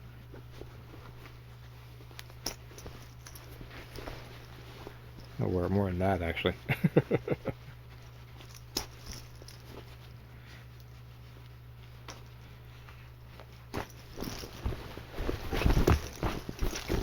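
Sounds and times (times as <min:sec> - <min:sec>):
steady low hum: 0:00.0 - 0:17.0
stiff cloth rustling: 0:00.0 - 0:17.0.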